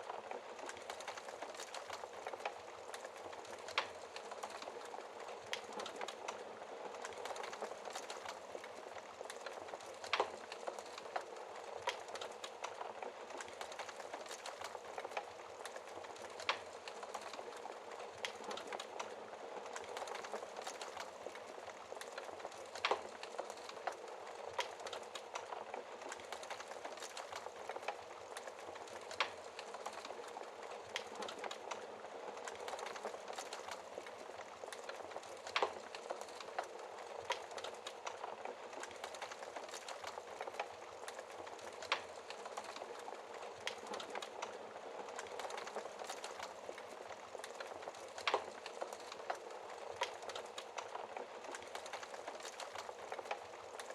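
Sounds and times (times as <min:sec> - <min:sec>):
wood fire crackling: 0:00.0 - 0:53.9
fire pops: 0:00.2 - 0:53.9.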